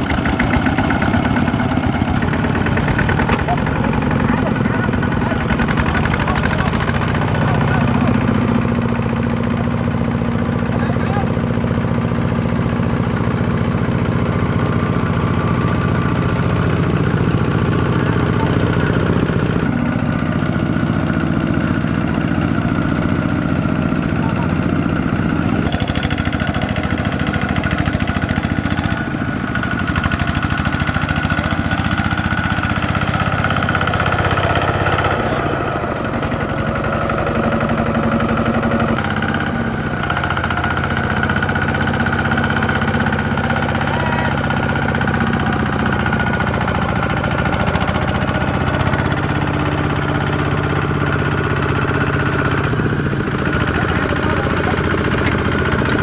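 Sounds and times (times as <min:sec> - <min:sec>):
diesel tractor engine knocking: 0:00.0 - 0:56.0.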